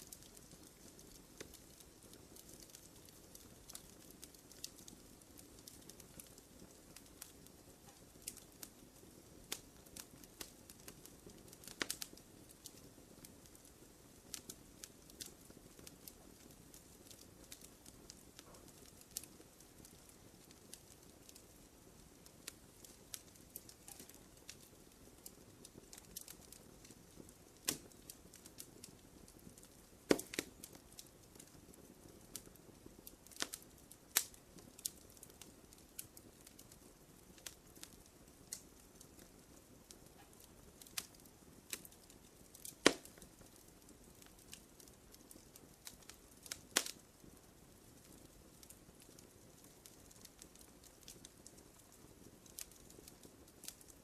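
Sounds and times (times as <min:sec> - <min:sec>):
campfire pops and snaps: 0:00.0 - 0:54.0
faint hiss of flames: 0:00.0 - 0:54.0.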